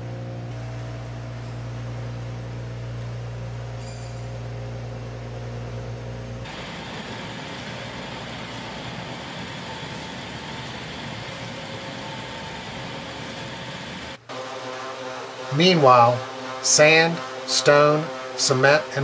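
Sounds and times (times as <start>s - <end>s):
factory din with whining tones: 0.0s - 19.0s
machinery deep hum: 0.0s - 19.0s.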